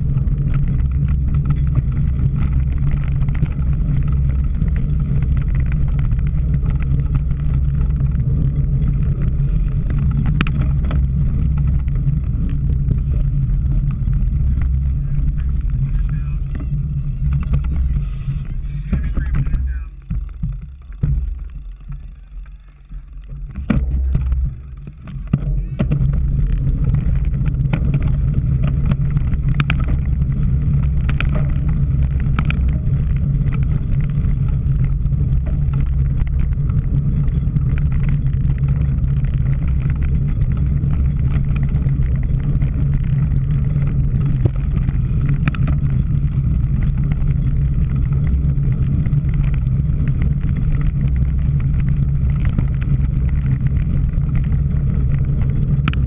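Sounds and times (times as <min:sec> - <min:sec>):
faint clicks and rattles: 0:00.0 - 0:56.0
wind buffeting camera: 0:00.0 - 0:56.0.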